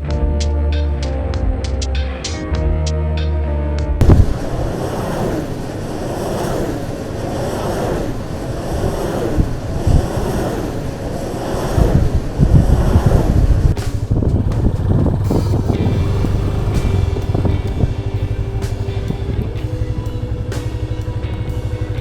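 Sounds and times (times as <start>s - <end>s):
low thumps from wind gusts: 3.9s - 22.0s
wind buffeting microphone: 4.0s - 22.0s.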